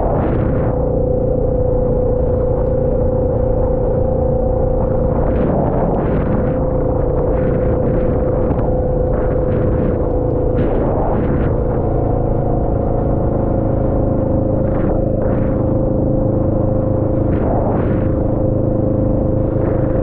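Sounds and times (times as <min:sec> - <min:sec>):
vehicle rumble with droning tone: 0:00.0 - 0:20.0.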